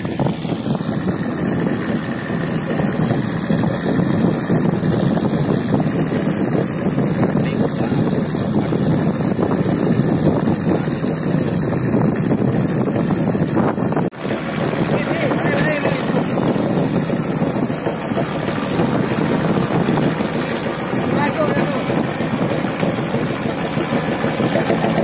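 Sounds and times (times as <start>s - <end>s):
boat engine running: 0.0s - 25.0s
water rushing past hull: 0.0s - 25.0s
wind buffeting microphone: 0.0s - 25.0s.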